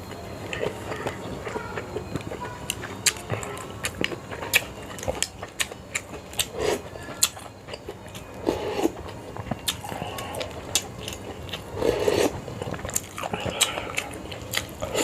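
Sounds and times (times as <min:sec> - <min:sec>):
chewing: 0:00.1 - 0:15.0.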